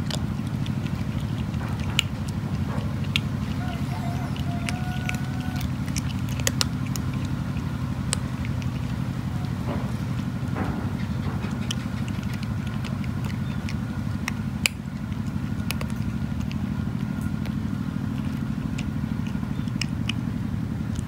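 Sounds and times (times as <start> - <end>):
cat crunching dry kibble: 0.0 - 21.0
low mechanical drone: 0.0 - 21.0.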